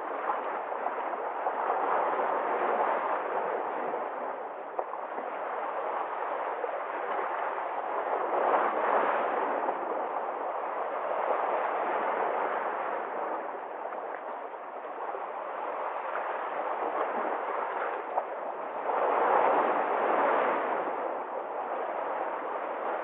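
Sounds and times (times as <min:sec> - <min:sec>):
sea waves breaking: 0:00.0 - 0:23.0.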